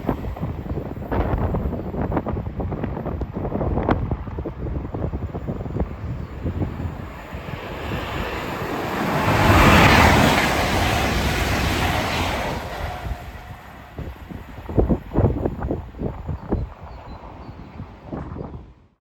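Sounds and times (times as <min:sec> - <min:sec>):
train passing at speed: 0:00.0 - 0:18.8
wind buffeting microphone: 0:00.0 - 0:19.0.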